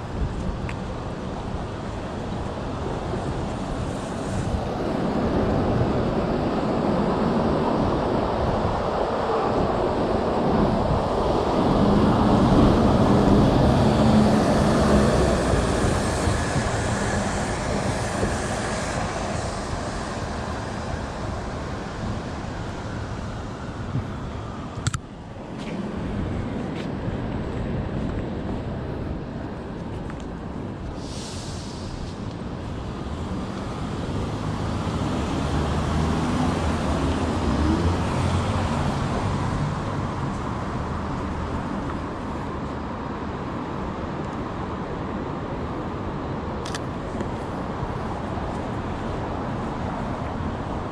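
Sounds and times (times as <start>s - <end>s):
city street traffic: 0.0s - 50.9s
large vehicle passing by: 1.0s - 28.5s, 30.7s - 45.4s.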